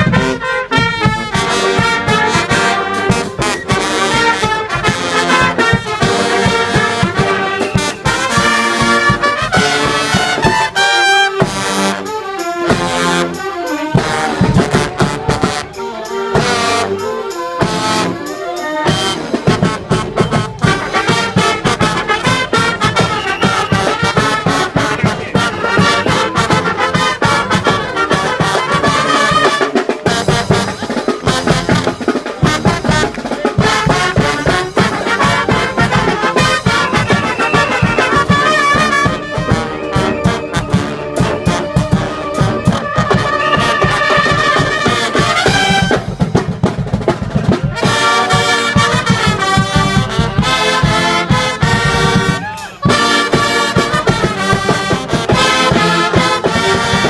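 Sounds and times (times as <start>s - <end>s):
brass band playing: 0.0s - 57.0s
drum beat: 0.0s - 57.0s.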